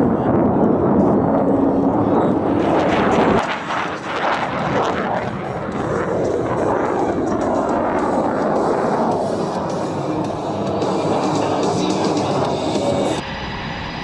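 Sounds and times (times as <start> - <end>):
aircraft engine rushing overhead: 0.0 - 14.0.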